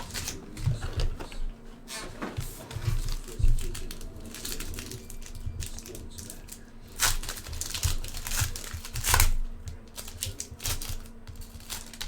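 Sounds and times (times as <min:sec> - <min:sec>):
cards rustling: 0:00.0 - 0:12.0.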